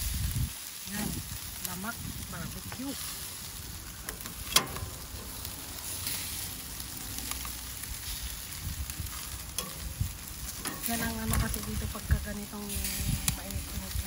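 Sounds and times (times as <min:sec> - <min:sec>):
chicken sizzling on grill: 0:00.0 - 0:14.0.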